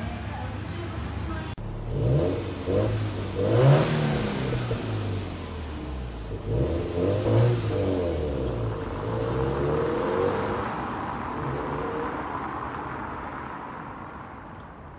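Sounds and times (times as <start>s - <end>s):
car engine accelerating: 1.5s - 13.6s.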